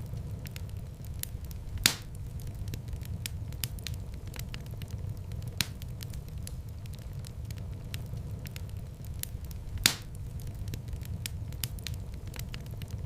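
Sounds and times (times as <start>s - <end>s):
sharp pops of fire: 0.0s - 13.0s
wood fire crackling in fireplace: 0.0s - 13.0s.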